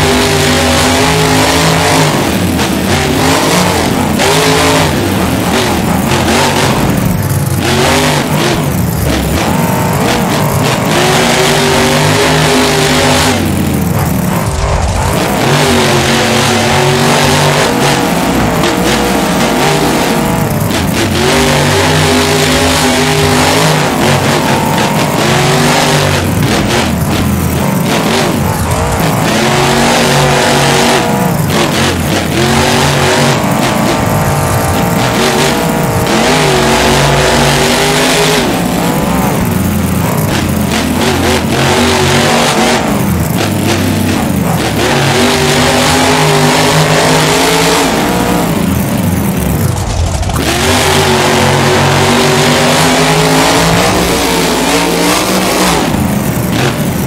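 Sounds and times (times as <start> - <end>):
truck engine revving hard: 0.0 - 57.0.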